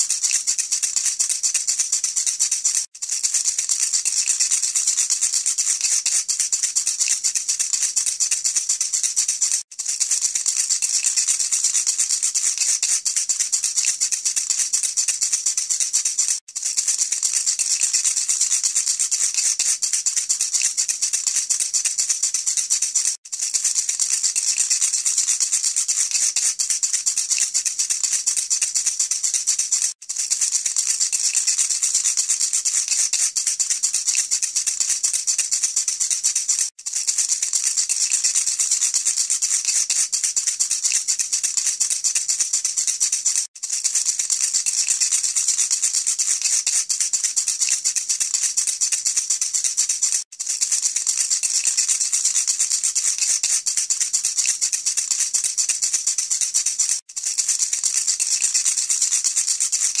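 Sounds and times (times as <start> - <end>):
rattle shaken rapidly: 0.0 - 60.0.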